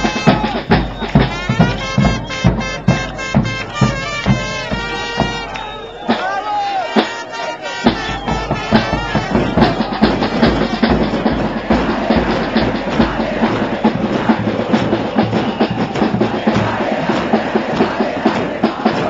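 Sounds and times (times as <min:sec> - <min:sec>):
drums beating fast rhythm: 0:00.0 - 0:19.0.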